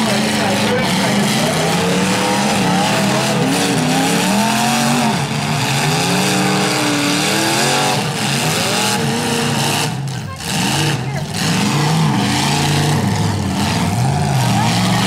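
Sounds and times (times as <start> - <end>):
car engines revving: 0.0 - 15.0
tires spinning in dirt: 0.0 - 15.0.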